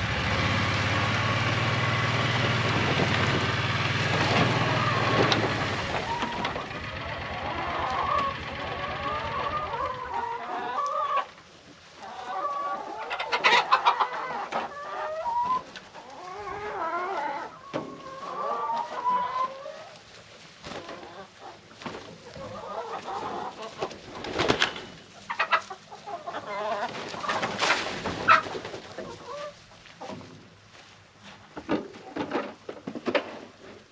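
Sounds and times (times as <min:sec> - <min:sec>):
chickens clucking: 0:00.6 - 0:33.9.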